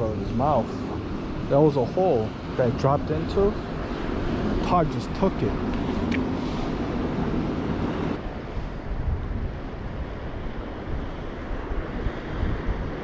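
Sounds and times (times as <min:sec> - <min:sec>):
ocean surf against rocks: 0:00.0 - 0:13.0
wind buffeting microphone: 0:00.0 - 0:13.0.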